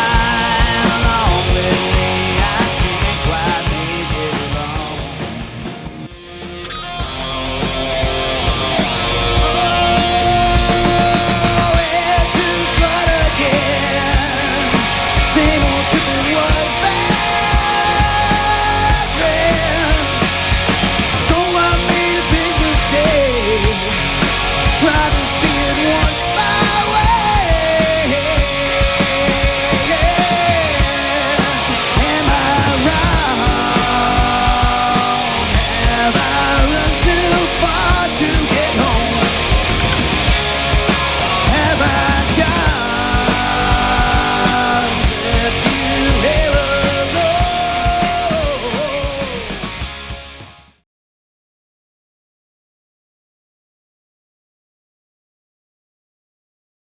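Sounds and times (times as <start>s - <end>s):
lead guitar bending notes: 0.0s - 50.3s
rock band playing: 0.0s - 50.8s.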